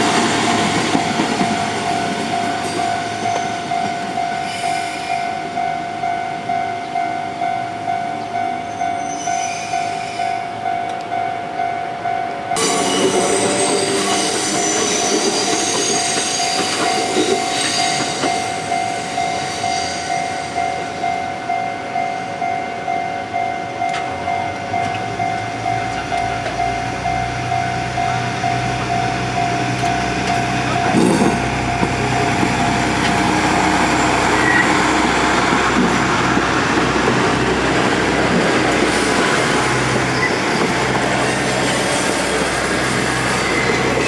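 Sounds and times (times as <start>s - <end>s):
diesel railcar engine rumble: 0.0s - 44.0s
level-crossing warning bell: 0.0s - 44.0s
rail noise: 0.0s - 44.0s.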